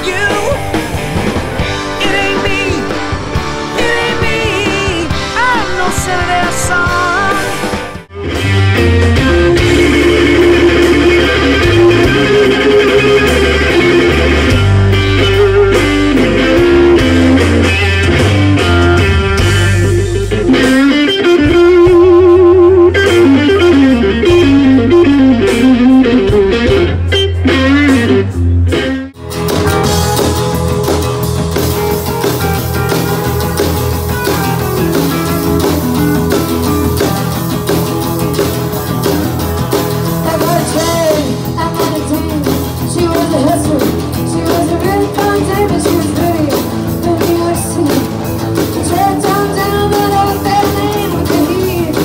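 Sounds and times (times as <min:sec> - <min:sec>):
band song: 0:00.0 - 0:52.0
bass line: 0:00.0 - 0:52.0
electric guitar solo: 0:00.0 - 0:52.0.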